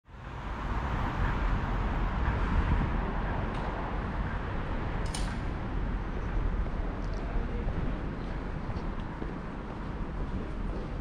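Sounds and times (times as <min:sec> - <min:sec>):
train rumbling: 0:00.2 - 0:11.0.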